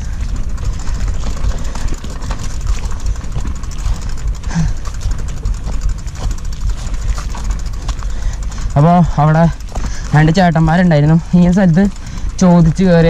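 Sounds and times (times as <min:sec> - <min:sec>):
bike chain and frame rattling: 0:00.0 - 0:13.0
tyres on loose earth: 0:00.0 - 0:13.0.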